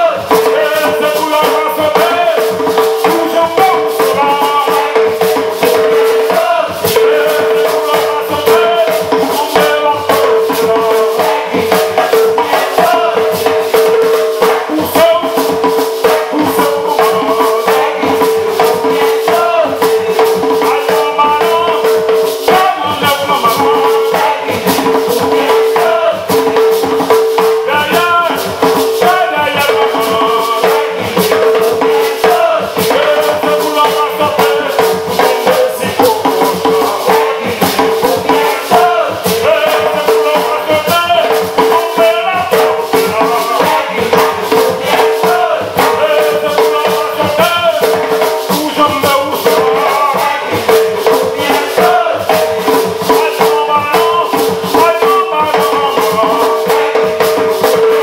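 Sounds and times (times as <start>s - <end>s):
barrel hand drums beating: 0.0s - 58.0s
group of voices singing: 0.0s - 58.0s
shaker rattling: 0.0s - 58.0s.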